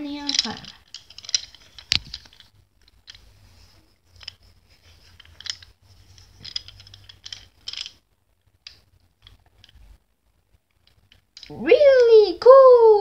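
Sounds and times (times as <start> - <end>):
faint clicks and ticks: 0.0 - 12.1.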